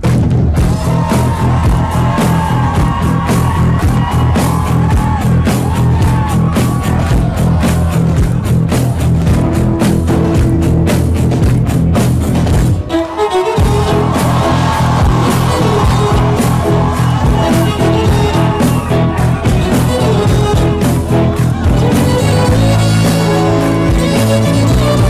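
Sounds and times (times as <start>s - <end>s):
music with driving beat: 0.0s - 25.0s.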